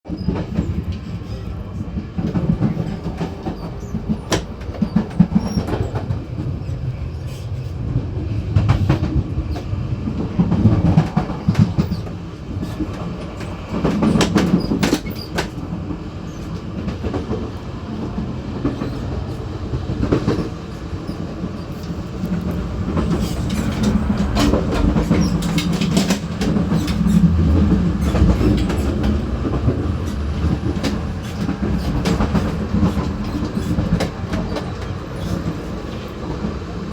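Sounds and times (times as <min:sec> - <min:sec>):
low train rumble: 0:00.1 - 0:36.9
wheels clickety-clack over rail joints: 0:00.1 - 0:36.9.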